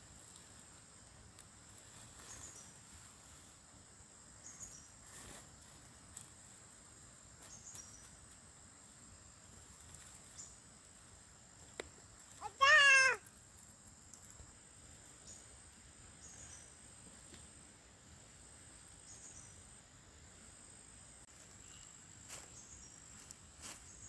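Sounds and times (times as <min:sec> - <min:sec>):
short insect chirps: 0:00.0 - 0:24.0.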